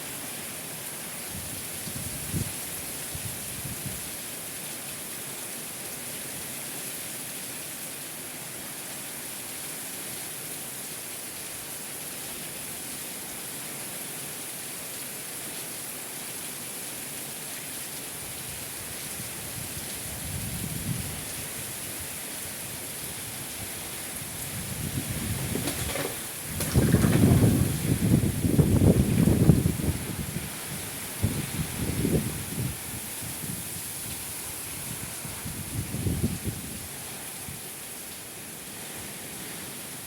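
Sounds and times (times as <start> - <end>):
heavy rain: 0.0 - 40.0
wind: 0.0 - 40.0.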